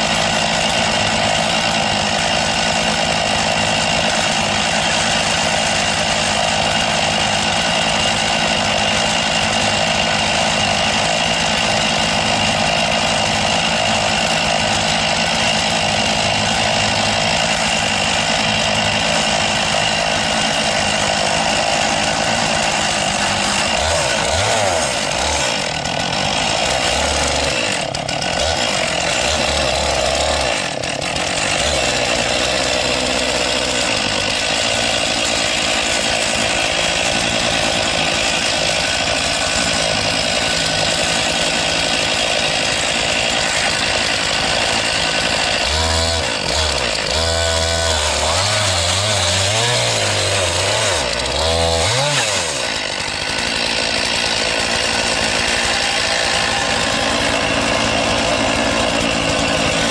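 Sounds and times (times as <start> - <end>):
chainsaw cutting through log: 0.0 - 59.9.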